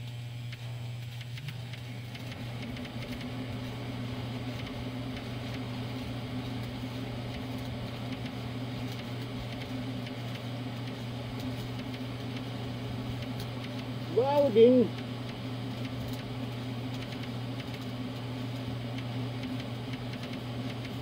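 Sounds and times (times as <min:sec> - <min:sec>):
arc welder humming: 0:00.0 - 0:21.0
welding arc crackle: 0:00.0 - 0:21.0.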